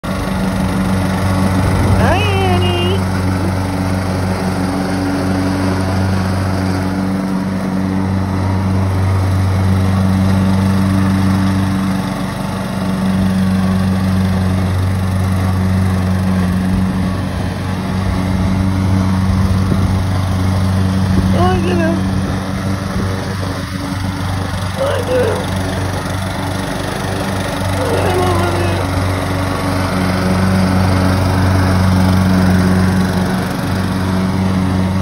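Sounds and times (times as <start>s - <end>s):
riding lawn mower engine: 0.0s - 35.0s.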